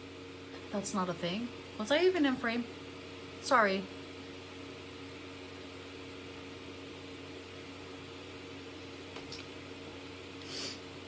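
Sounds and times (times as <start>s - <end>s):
fan humming with hiss: 0.0s - 11.0s.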